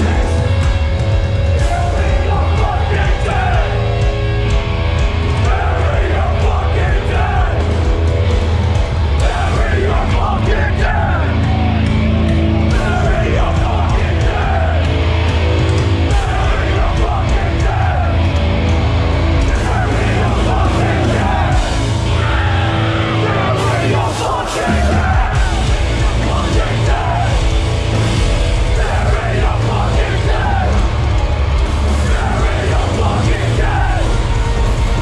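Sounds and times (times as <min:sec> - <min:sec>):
hardcore band playing live: 0:00.0 - 0:35.0.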